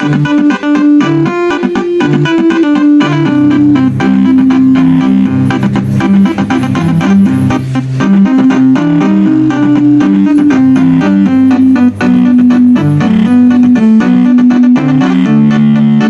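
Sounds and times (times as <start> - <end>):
multi-note bus horn melody: 0.0 - 16.0.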